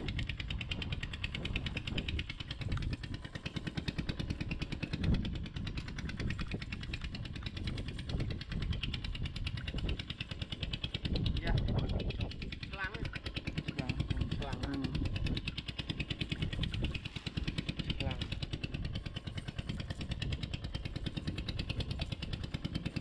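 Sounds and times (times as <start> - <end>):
small engine puttering: 0.0 - 23.0.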